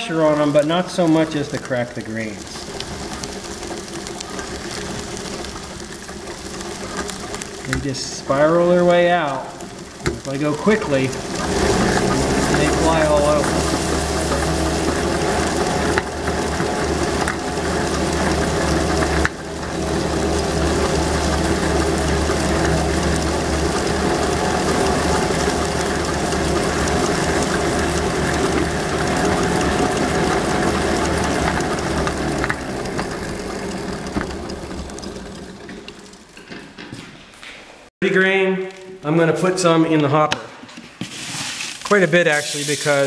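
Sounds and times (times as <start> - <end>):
pedal-driven grain dehuller humming: 0.0 - 36.9.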